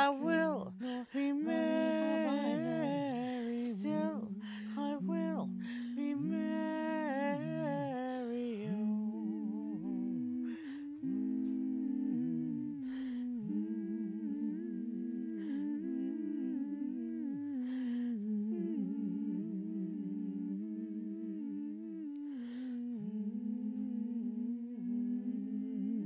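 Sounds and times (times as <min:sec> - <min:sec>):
woman humming layered parts: 0:00.0 - 0:26.0.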